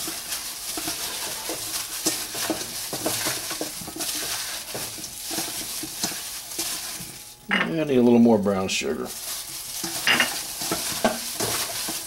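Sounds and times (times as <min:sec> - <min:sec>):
chicken wings stirred in sauce: 0:00.0 - 0:07.2, 0:09.1 - 0:12.0.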